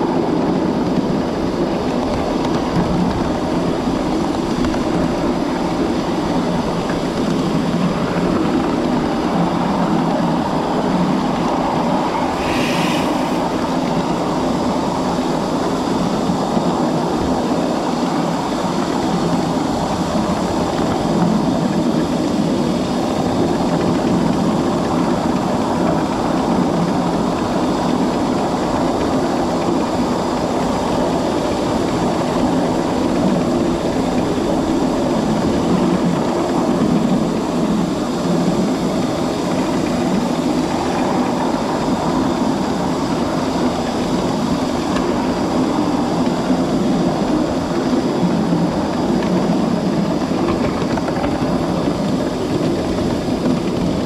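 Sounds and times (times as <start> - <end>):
steam hiss: 0.0 - 54.0
train wheels rumbling on rail: 0.0 - 54.0.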